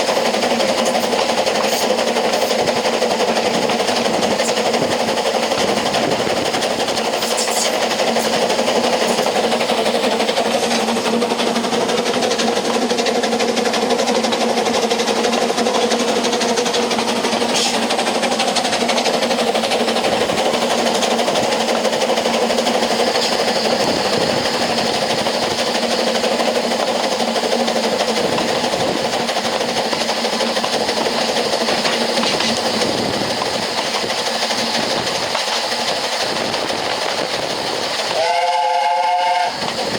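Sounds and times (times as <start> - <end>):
train wheels rattling on rails: 0.0 - 39.9.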